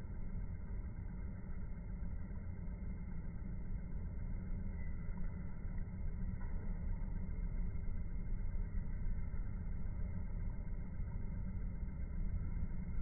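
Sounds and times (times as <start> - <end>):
low outdoor background rumble: 0.0 - 13.0.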